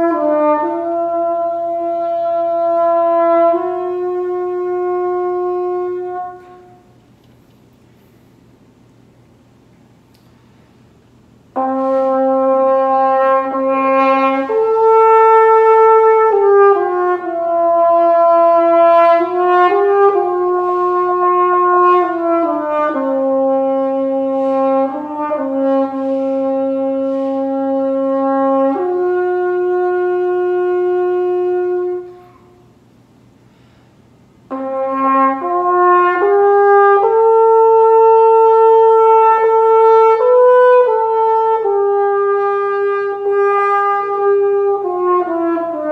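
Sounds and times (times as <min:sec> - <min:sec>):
french horn melody: 0:00.0 - 0:07.1, 0:11.4 - 0:32.9, 0:34.4 - 0:45.9.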